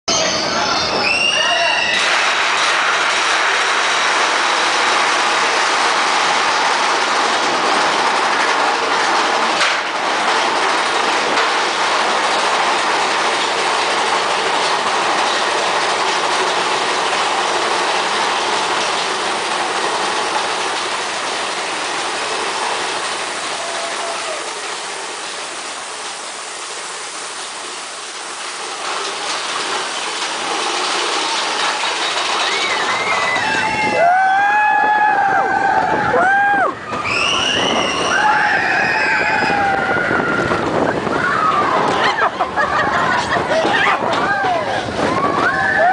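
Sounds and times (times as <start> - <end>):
roller coaster rattling on track: 0.1 - 45.9.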